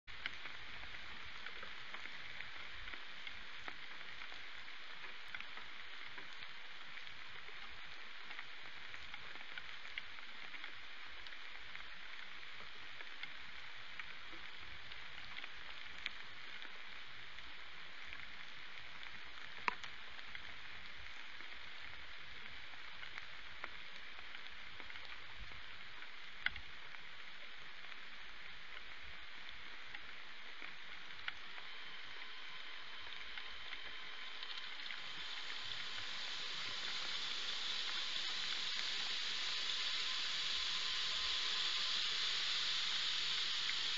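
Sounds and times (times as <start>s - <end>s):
raindrop ticks: 0.1s - 43.9s
steady rain hiss: 0.1s - 43.9s.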